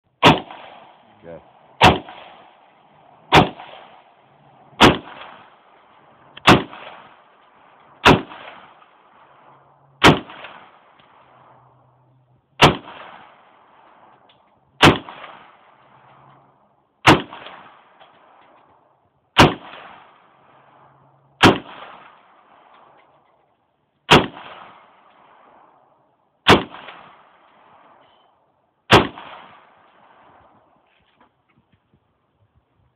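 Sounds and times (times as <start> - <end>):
rifle shots with echo: 0.1 - 11.8, 12.6 - 23.3, 24.1 - 30.8.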